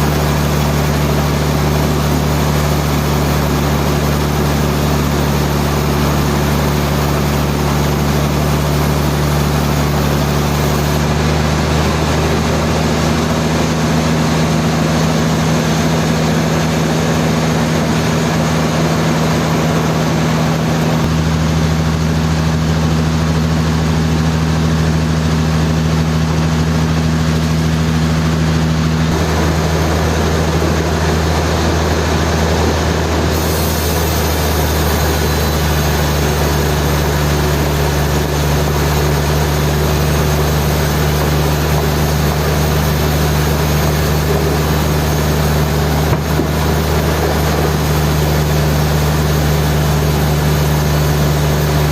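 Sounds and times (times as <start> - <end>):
sawmill machinery humming: 0.0 - 51.9.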